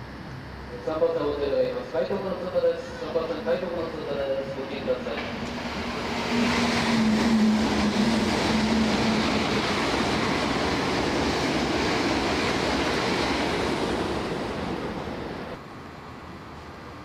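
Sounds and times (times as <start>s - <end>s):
electric train passing at speed: 0.0s - 17.0s.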